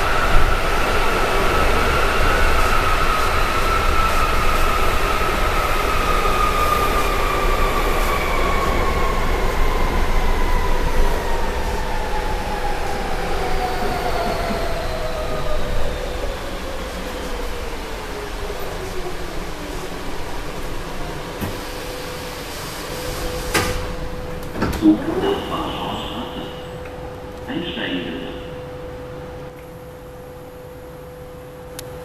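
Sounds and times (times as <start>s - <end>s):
train rumble: 0.0s - 31.6s.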